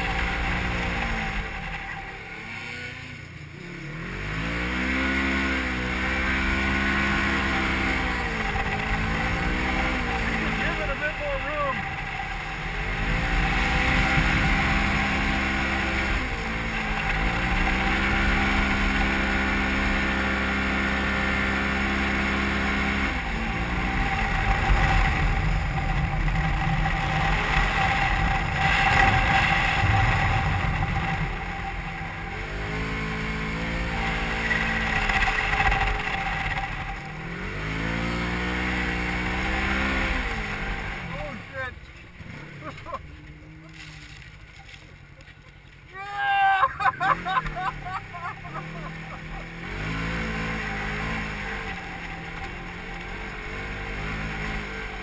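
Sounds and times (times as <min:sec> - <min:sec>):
engine revving: 0:00.0 - 0:44.5, 0:46.0 - 0:55.0
rushing wind and tyres: 0:00.0 - 0:55.0.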